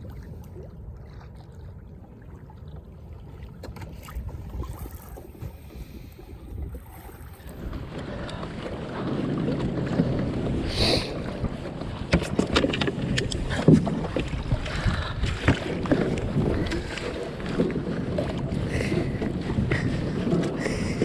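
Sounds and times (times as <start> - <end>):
knocks and splashes: 0.0 - 5.9, 6.5 - 21.0
water sloshing around kayak: 0.0 - 21.0
wind on microphone: 4.0 - 21.0.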